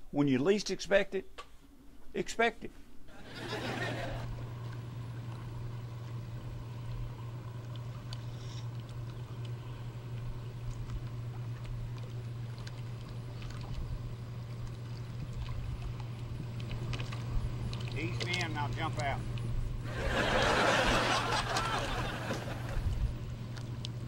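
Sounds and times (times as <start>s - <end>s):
boat motor humming: 3.1s - 24.0s.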